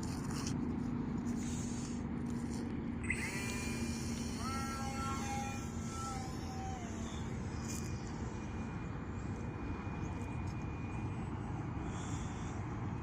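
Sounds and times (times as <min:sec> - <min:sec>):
model airplane motor whine: 0:00.0 - 0:13.0.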